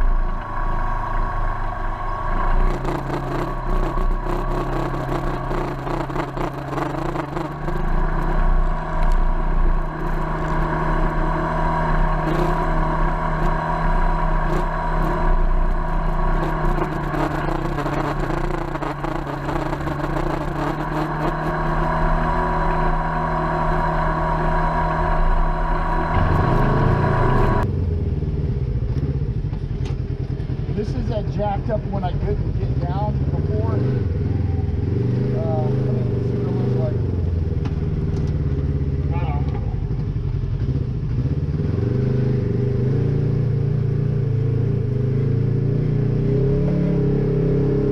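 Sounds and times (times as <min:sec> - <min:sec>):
off-road vehicle engine running: 0:00.0 - 0:47.9.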